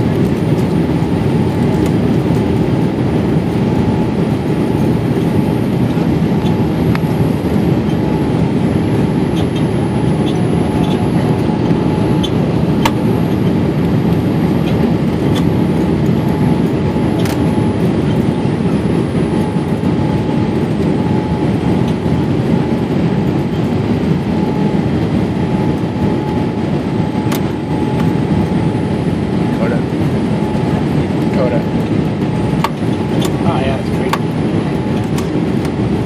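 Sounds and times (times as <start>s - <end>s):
airliner cabin engine roar: 0.0s - 36.0s
faint steady whine: 0.0s - 36.0s.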